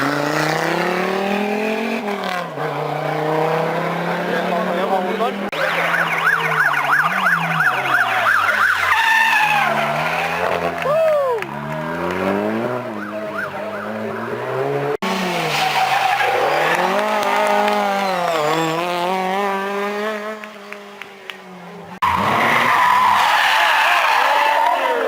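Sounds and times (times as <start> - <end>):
rally car engines revving: 0.0 - 25.0
tyres skidding: 0.0 - 25.0.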